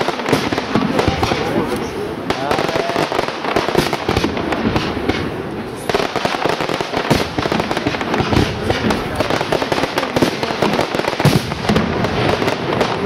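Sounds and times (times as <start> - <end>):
fireworks bursting and crackling: 0.0 - 13.0
heavy firework bangs: 0.0 - 13.0.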